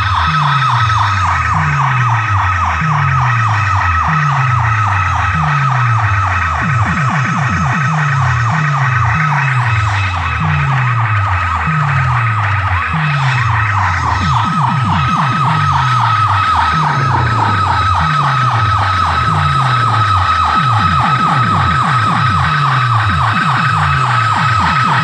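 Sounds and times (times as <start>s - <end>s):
deep bass notes sliding down: 0.0s - 25.0s
siren-like falling sweep: 0.0s - 25.0s.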